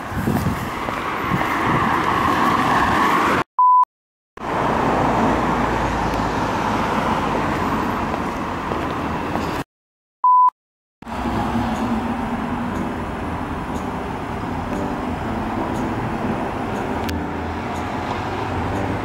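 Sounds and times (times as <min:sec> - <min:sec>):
road traffic noise: 0:00.0 - 0:03.8, 0:04.4 - 0:19.0.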